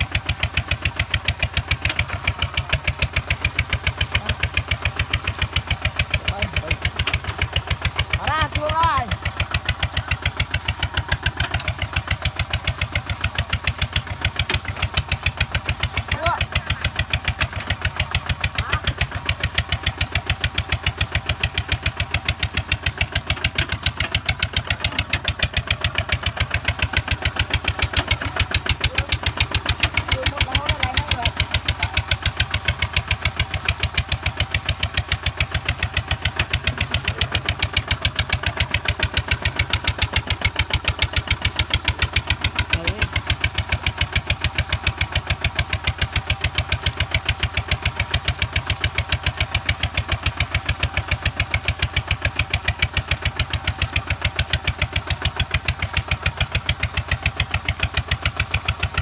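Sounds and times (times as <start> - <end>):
diesel tractor engine chugging: 0.0 - 59.0.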